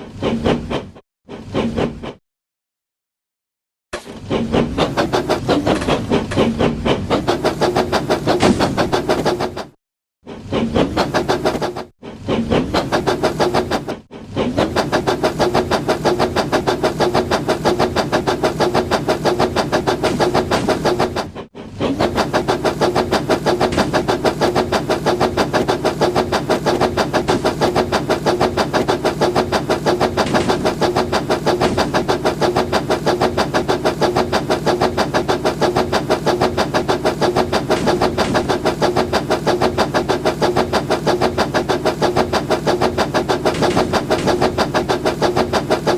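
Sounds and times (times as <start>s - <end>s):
toy train mechanical clatter: 4.0s - 9.7s, 10.4s - 45.9s.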